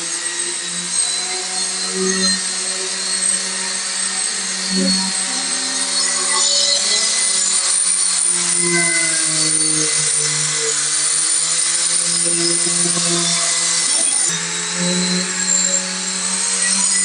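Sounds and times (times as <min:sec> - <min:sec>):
power sander on wood: 0:00.0 - 0:17.0.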